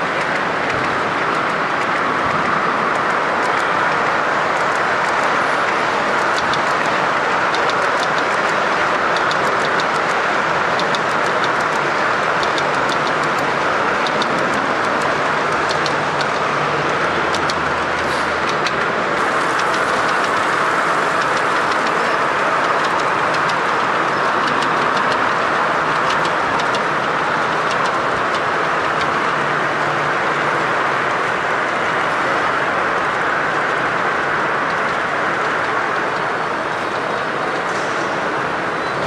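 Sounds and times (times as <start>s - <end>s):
model train wheels ticking: 0.0s - 38.6s
steady noisy background: 0.0s - 39.0s.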